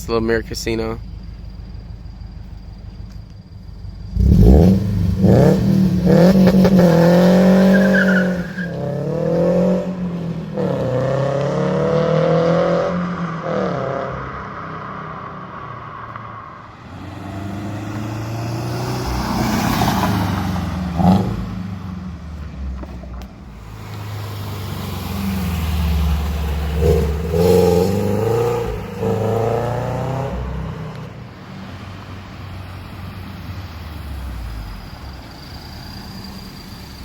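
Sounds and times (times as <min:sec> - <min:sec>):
car engine accelerating: 0:03.8 - 0:37.0.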